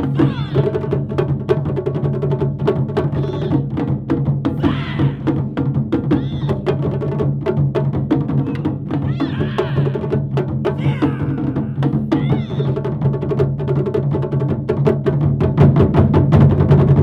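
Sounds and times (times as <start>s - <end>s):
taiko drums playing fast rhythm: 0.0s - 17.0s.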